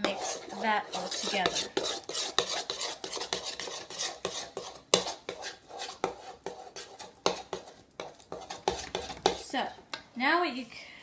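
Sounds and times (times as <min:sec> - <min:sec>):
spoon stirring thick mixture: 0:00.0 - 0:10.2.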